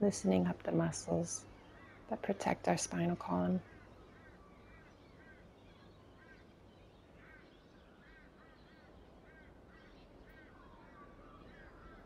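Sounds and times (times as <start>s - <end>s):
faint bird calls: 1.0s - 12.0s.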